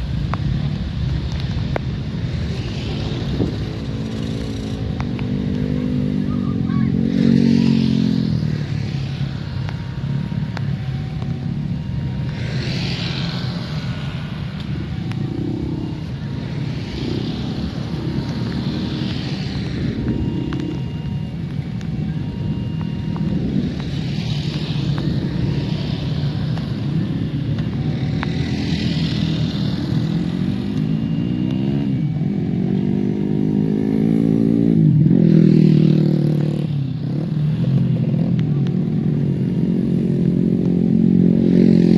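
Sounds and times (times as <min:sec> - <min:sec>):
vehicle engine accelerating: 0:00.0 - 0:41.9.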